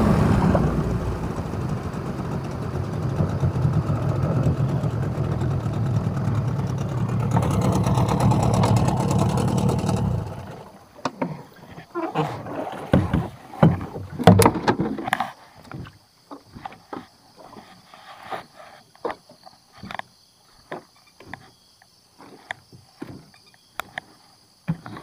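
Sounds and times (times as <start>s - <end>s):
net hauled over boat side: 0.0s - 25.0s.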